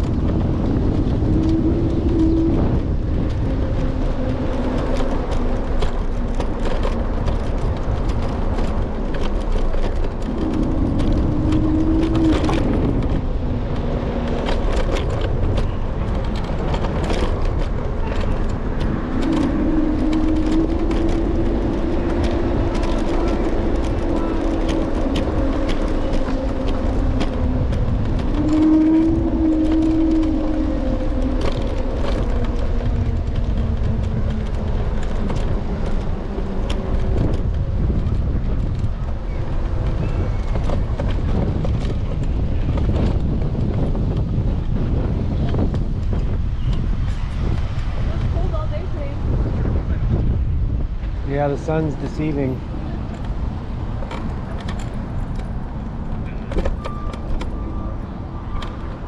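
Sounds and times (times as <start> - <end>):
clicks and rattles from bumps: 0.0 - 48.3, 51.0 - 59.0
wind and road rumble: 0.0 - 59.0.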